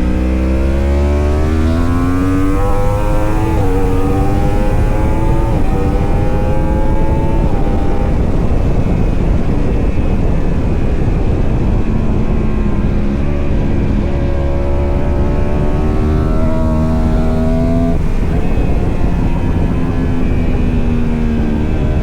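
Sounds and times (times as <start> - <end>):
racing motorcycle engines at high revs: 0.0 - 22.0.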